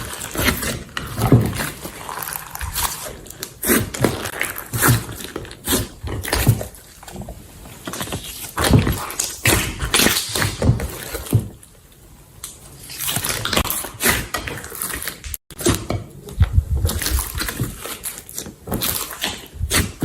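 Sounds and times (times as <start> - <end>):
slime squelching and popping: 0.0 - 11.7, 12.4 - 20.0.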